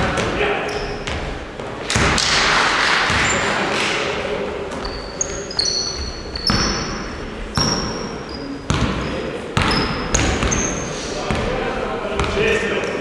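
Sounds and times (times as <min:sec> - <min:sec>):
sneakers squeaking on floor: 0:00.0 - 0:02.2, 0:03.1 - 0:03.7, 0:04.4 - 0:12.6
basketballs bouncing on court: 0:00.0 - 0:03.6, 0:04.7 - 0:12.5.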